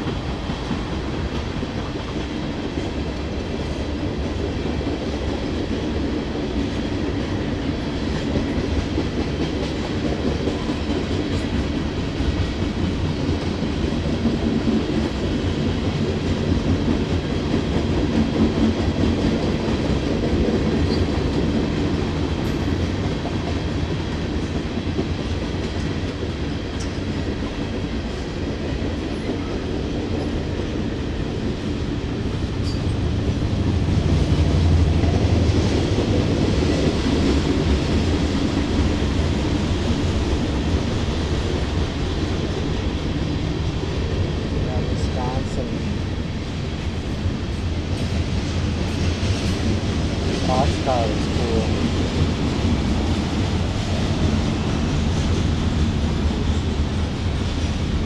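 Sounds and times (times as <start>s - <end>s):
freight train rumble and wheel clatter: 0.0s - 58.0s.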